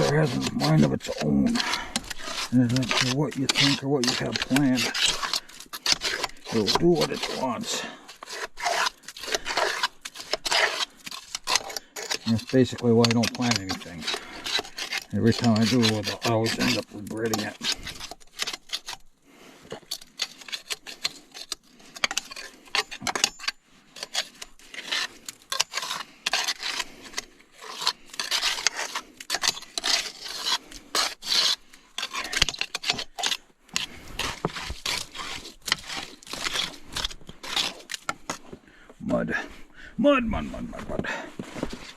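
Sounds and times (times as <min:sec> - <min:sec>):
mud scraping: 0:00.0 - 0:41.9.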